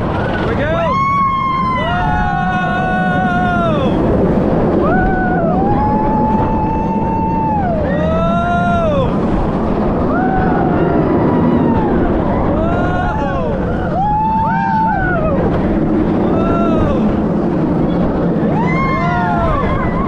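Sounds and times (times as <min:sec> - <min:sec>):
roller coaster train rumbling: 0:00.0 - 0:20.0
wind rushing: 0:00.0 - 0:20.0
riders screaming: 0:00.6 - 0:20.0.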